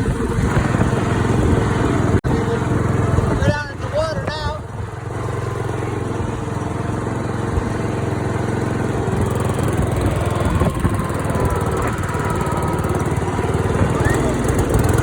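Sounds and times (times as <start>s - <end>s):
riding lawn mower engine running: 0.0s - 15.0s.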